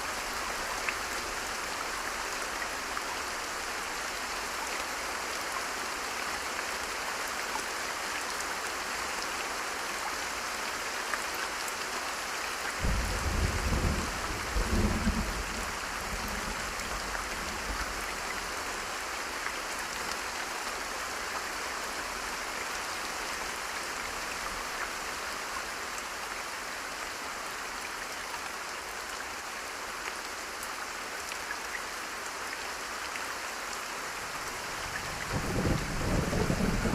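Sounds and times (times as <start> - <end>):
heavy rain: 0.0 - 36.9.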